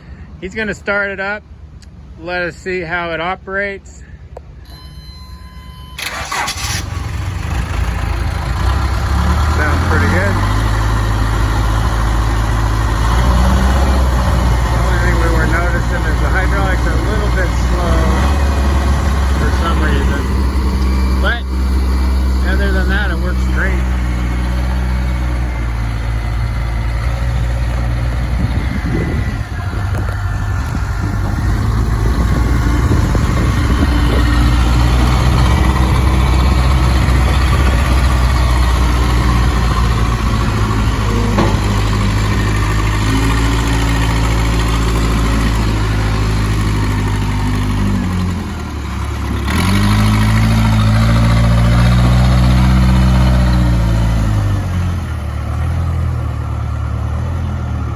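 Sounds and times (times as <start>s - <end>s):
backhoe diesel engine running: 4.1s - 57.9s.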